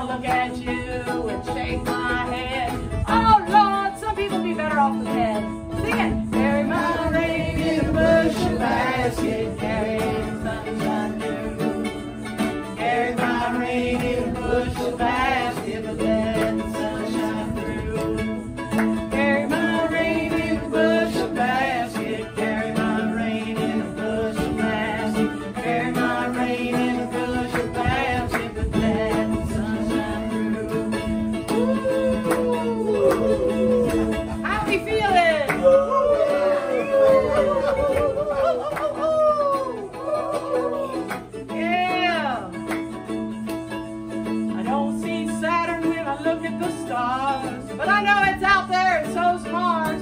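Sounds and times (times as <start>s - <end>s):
woman singing: 0.0s - 12.0s, 12.8s - 42.6s, 44.5s - 50.0s
strummed ukulele and mandolin: 0.0s - 50.0s.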